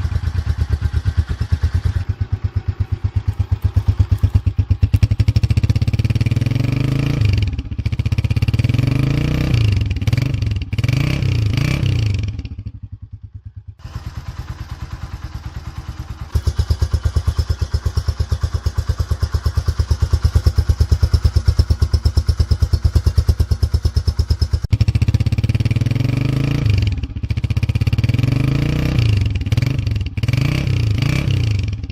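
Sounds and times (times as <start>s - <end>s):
motorcycle engine idling: 0.0s - 31.9s
motorcycle engine revving: 0.0s - 31.9s.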